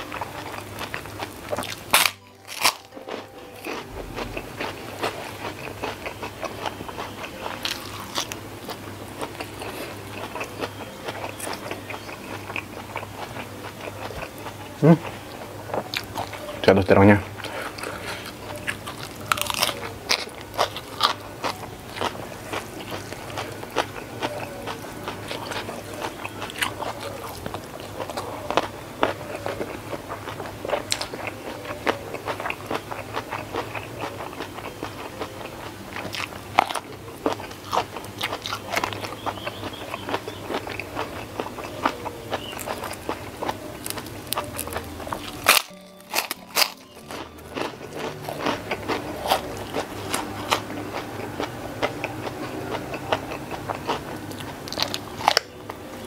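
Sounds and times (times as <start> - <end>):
close chewing with crunches: 0.0 - 56.0
cracker crunching: 0.0 - 56.0.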